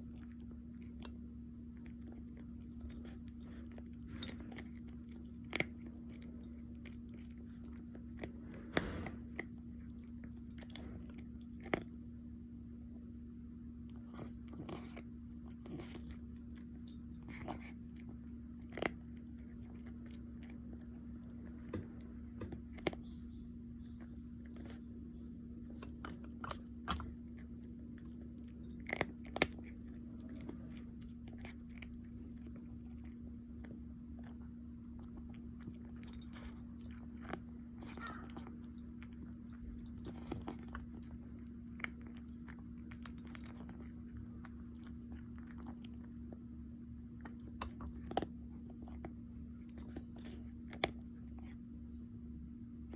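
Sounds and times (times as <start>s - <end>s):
animal chewing crunchy food: 0.0s - 52.9s
steady low hum: 0.0s - 52.9s.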